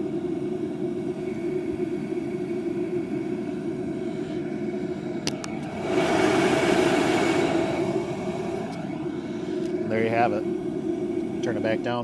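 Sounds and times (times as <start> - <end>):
faint high whine: 0.0 - 12.0
heater fan and burner rush: 0.0 - 12.0.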